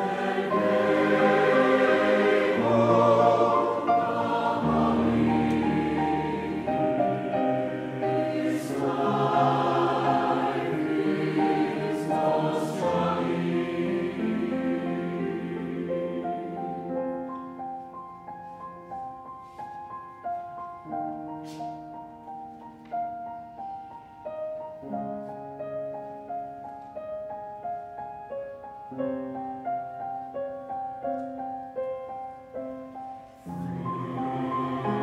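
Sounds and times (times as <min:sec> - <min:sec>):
grand piano playing: 0:00.0 - 0:35.0.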